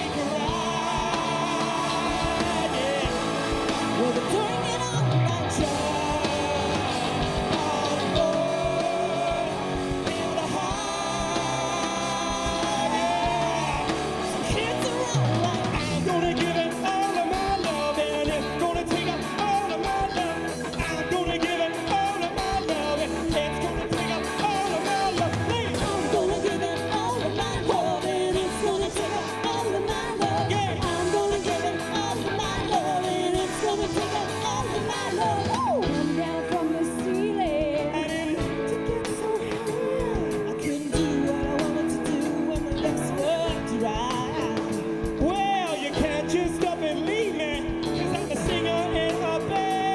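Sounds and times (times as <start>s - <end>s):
bass guitar: 0.0s - 49.9s
drum kit: 0.0s - 49.9s
electric guitars: 0.0s - 49.9s
man singing: 0.0s - 49.9s
woman singing: 0.0s - 49.9s.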